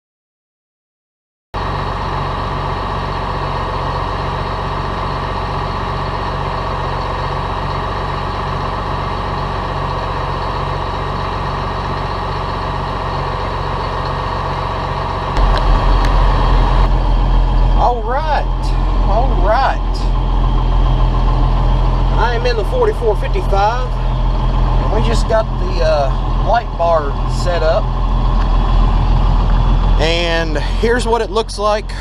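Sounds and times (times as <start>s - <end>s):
tractor diesel engine idling: 1.6s - 32.0s.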